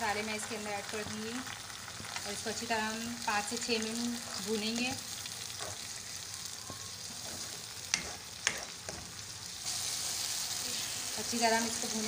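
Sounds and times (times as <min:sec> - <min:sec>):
masala sizzling in a frying pan: 0:00.0 - 0:12.0.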